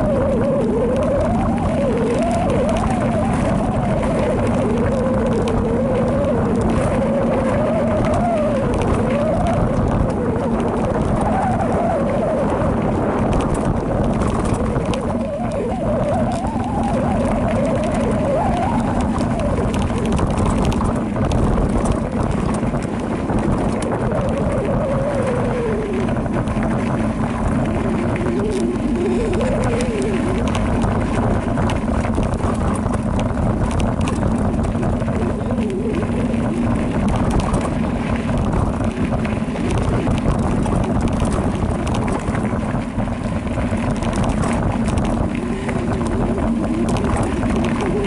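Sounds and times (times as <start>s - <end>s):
bike rattling: 0.0s - 48.0s
hum rising and falling: 0.0s - 48.0s
wind rush on microphone: 0.0s - 48.0s.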